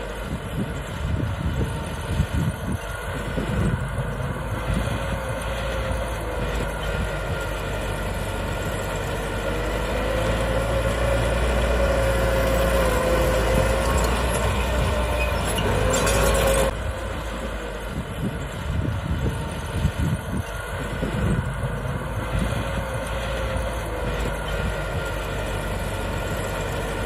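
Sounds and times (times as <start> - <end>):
bulldozer diesel engine: 0.0 - 27.0
engine whine: 0.0 - 27.0.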